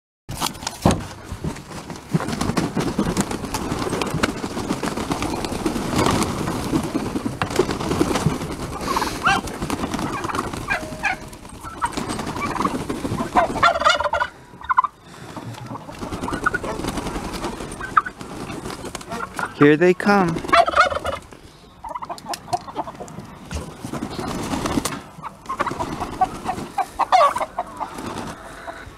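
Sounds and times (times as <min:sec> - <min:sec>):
wings fluttering: 0:00.3 - 0:28.9
poultry calling and clucking: 0:00.4 - 0:28.9.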